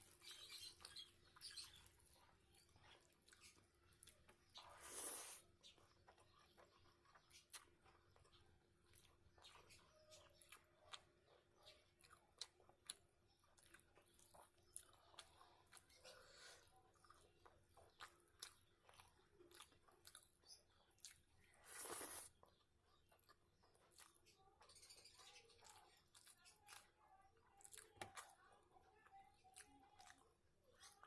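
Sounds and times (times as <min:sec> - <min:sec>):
chewing and biting: 0:00.0 - 0:28.6, 0:29.5 - 0:31.0.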